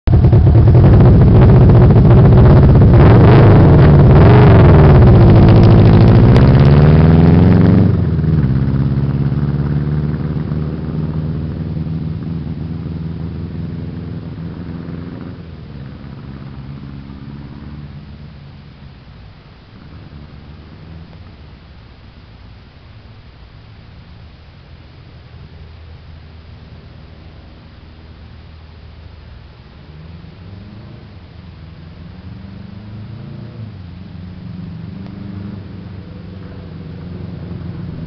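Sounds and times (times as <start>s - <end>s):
motorcycle engine revving: 0.0s - 22.5s, 25.4s - 38.0s.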